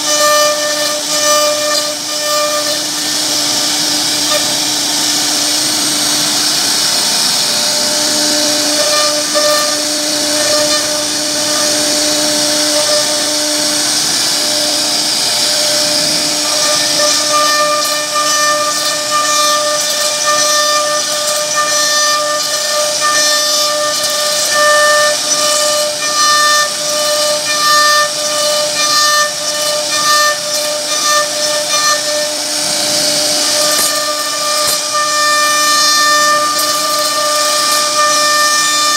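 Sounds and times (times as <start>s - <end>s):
hiss of cutting wood: 0.0s - 38.9s
router spindle whining: 0.0s - 38.9s.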